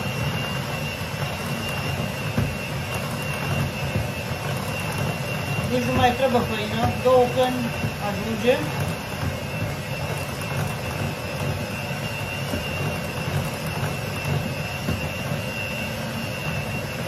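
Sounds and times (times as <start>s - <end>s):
electric hand mixer whisking batter: 0.0s - 17.0s.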